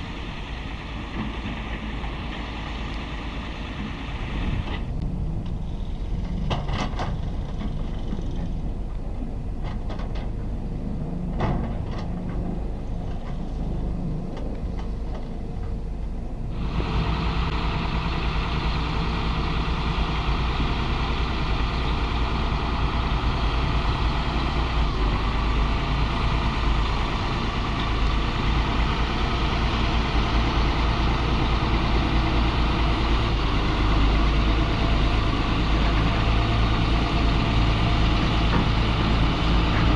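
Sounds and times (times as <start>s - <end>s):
diesel engines of earthmoving machines: 0.0s - 39.9s.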